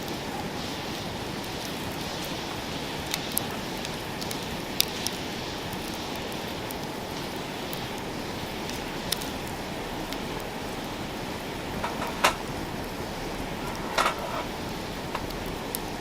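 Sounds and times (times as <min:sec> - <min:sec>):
campfire hissing: 0:00.0 - 0:16.0
fire crackling pops: 0:00.6 - 0:16.0.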